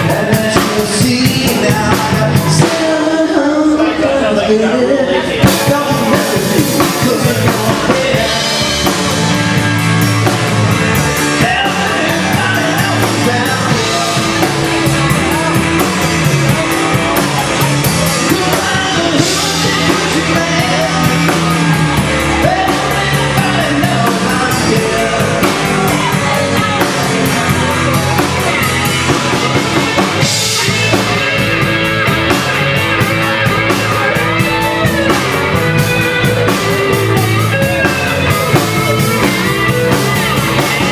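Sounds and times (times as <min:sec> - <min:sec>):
person singing: 0:00.0 - 0:40.9
rock band playing: 0:00.0 - 0:40.9.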